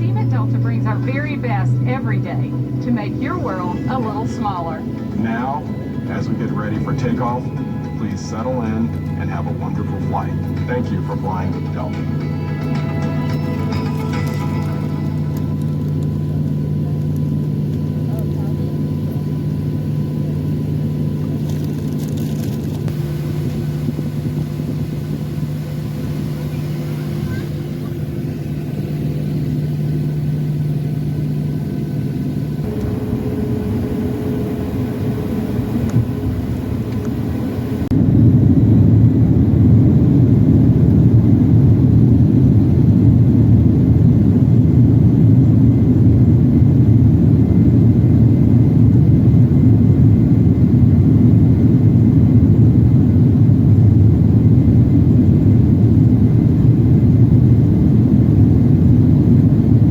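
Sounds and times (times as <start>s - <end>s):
jet engines from inside cabin: 0.0s - 59.9s.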